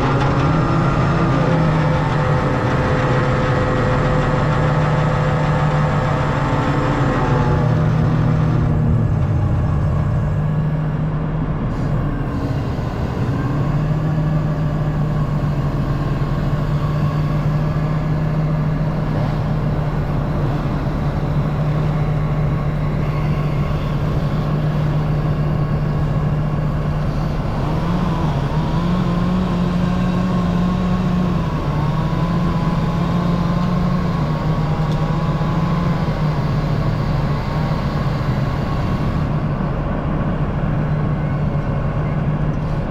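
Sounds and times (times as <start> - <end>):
excavator diesel engine running: 0.0 - 42.9
hydraulic whine: 0.0 - 42.9.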